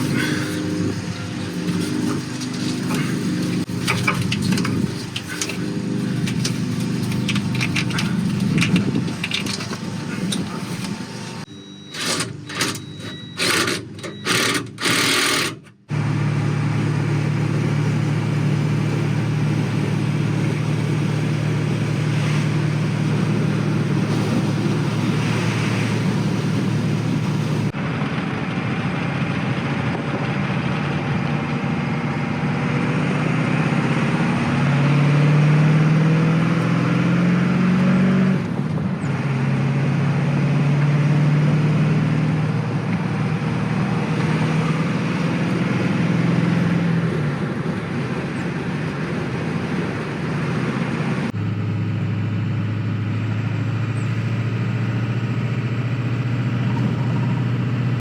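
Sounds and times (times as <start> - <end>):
heavy equipment diesel engine: 0.0 - 58.0.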